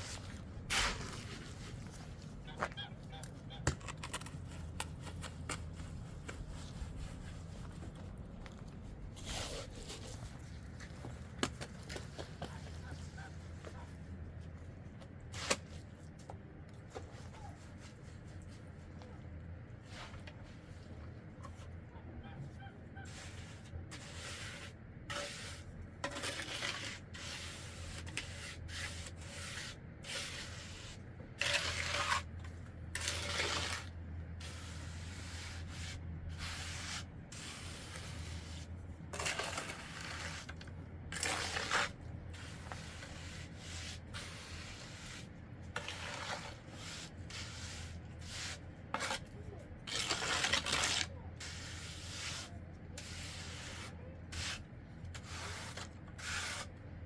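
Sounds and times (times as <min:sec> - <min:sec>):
scraping and rubbing strokes: 0:00.0 - 0:14.1, 0:19.8 - 0:56.8.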